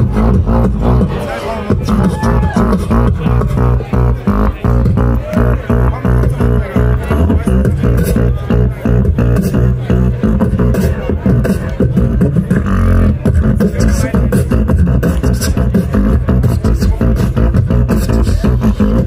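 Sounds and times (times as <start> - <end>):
beatboxing over heavy bass: 0.0 - 19.0.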